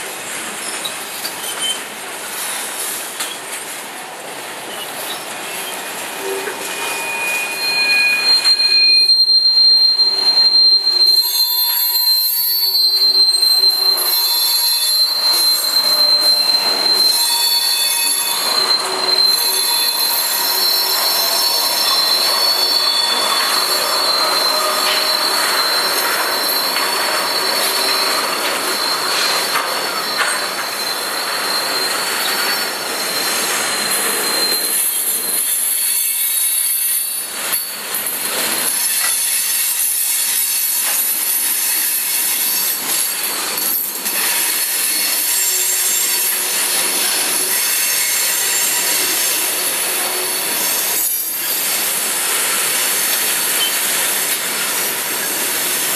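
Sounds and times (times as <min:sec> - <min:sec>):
train wheels rumbling on rails: 0:00.0 - 0:55.9
high wheel squeal: 0:00.5 - 0:03.5, 0:04.6 - 0:55.9.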